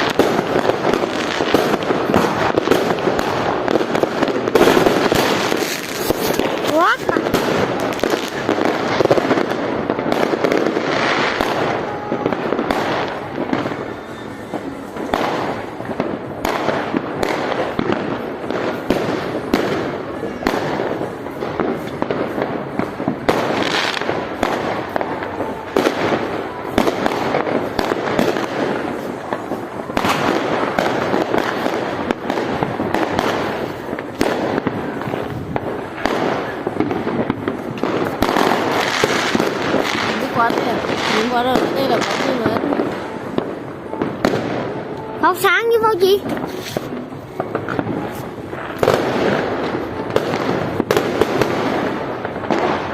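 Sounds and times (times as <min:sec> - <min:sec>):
fireworks bangs and crackles: 0:00.0 - 0:52.9.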